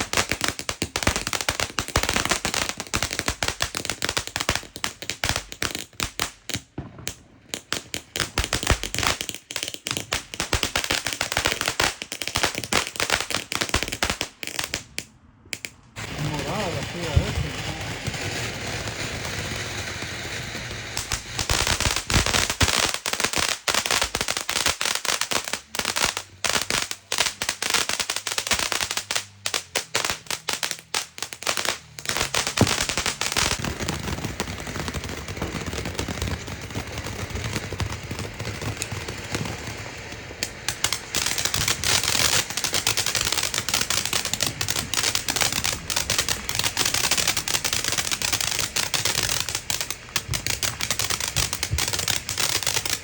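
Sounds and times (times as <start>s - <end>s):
firecrackers popping: 0.0s - 53.0s.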